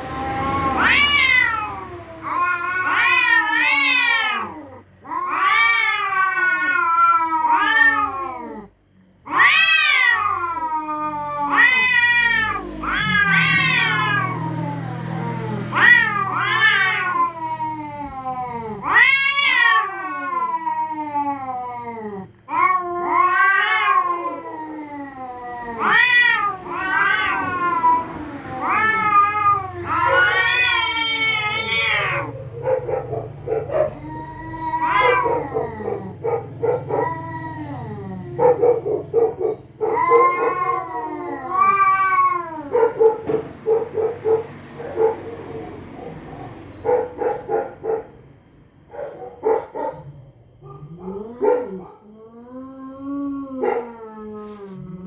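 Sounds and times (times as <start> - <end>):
cats growling: 0.0 - 55.0
cats yowling: 0.0 - 55.0.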